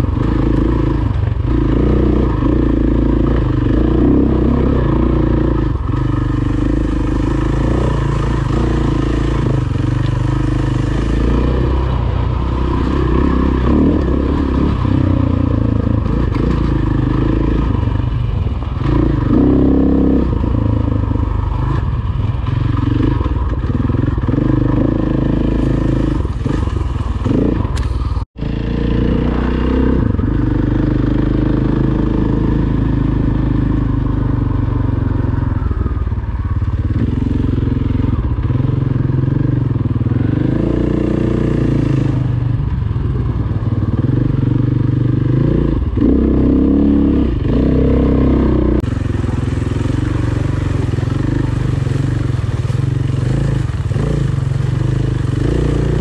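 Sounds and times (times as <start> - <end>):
dirt bike engine revving: 0.0 - 36.0, 36.8 - 42.4, 43.4 - 56.0.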